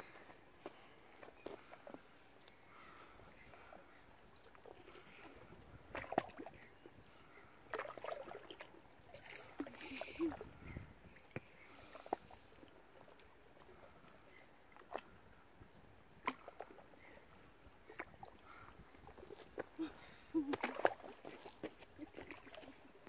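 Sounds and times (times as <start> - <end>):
water splashing and sloshing: 0.0 - 23.0.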